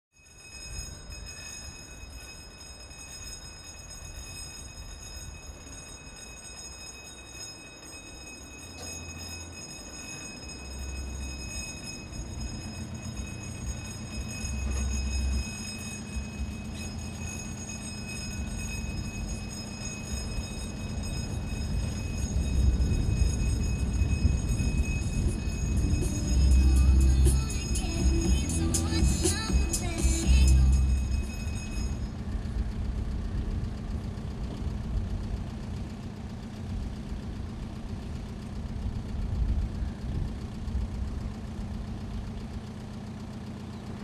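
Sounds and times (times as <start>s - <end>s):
warning bells ringing: 0.1s - 44.0s
cars passing with low rumbles: 0.5s - 44.0s.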